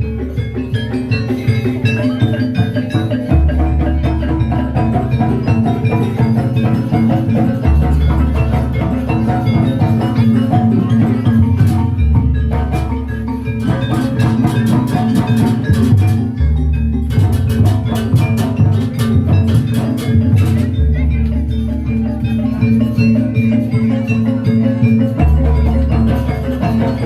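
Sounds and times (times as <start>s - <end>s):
drums beating: 0.0s - 27.0s
metal mallet instruments ringing: 0.0s - 27.0s.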